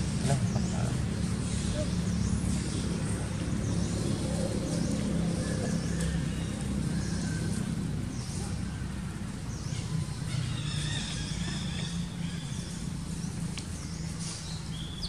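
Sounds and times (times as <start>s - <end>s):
distant engine hum: 0.0s - 15.0s.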